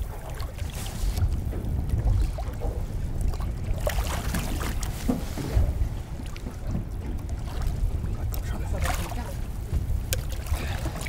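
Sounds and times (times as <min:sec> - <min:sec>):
water splashing: 0:00.0 - 0:11.0
wind rumbling on microphone: 0:00.0 - 0:11.0.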